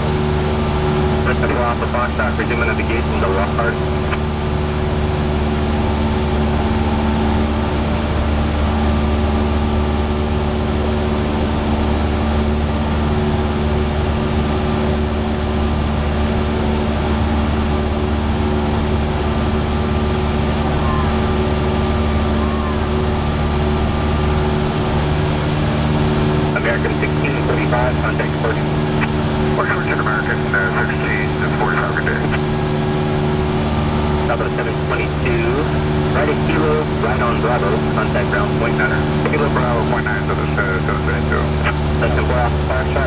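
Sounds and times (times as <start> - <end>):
propeller plane engine droning: 0.0 - 43.0.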